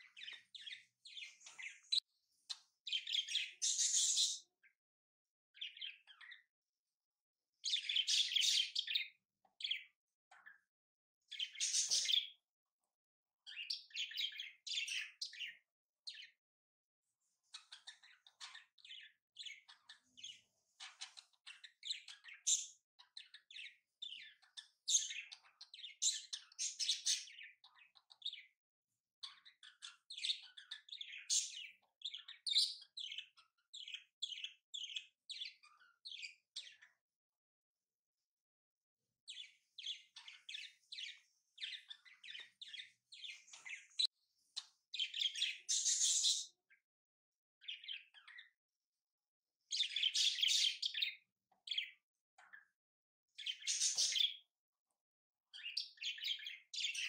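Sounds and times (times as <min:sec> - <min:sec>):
small birds chirping: 0:00.0 - 0:38.4, 0:39.0 - 0:47.0, 0:47.6 - 0:57.0.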